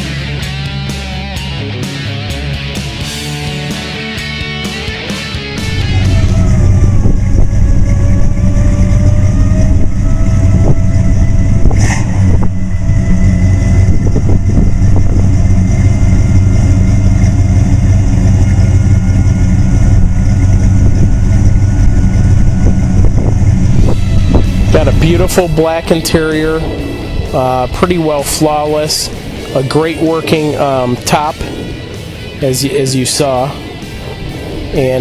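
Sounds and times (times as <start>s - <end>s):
engine idling with deep rumble: 0.0s - 35.0s
faint whine: 3.1s - 35.0s.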